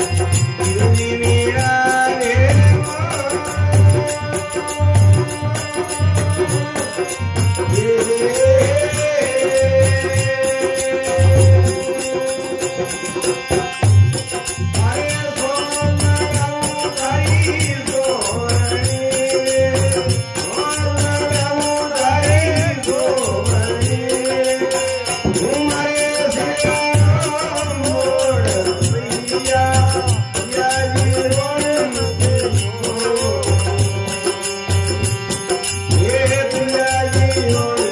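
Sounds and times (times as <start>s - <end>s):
harmonium notes: 0.0s - 37.9s
jingling percussion: 0.0s - 37.9s
man singing: 0.0s - 37.9s
steady drum beat: 0.0s - 37.9s.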